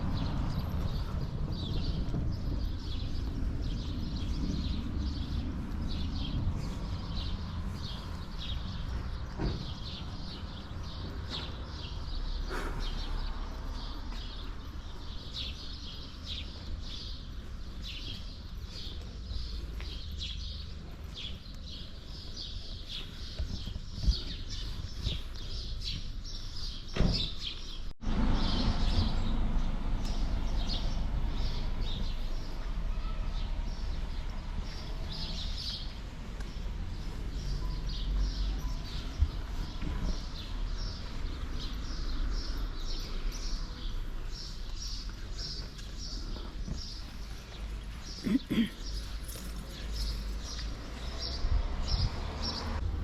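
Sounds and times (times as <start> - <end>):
small birds chirping: 0.0 - 52.8.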